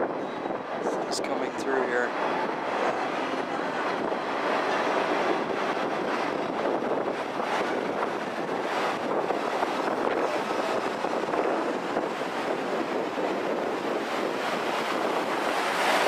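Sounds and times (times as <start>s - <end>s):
river rapids: 0.0s - 16.0s
wind on microphone: 0.0s - 16.0s
train rolling on rails: 2.2s - 16.0s.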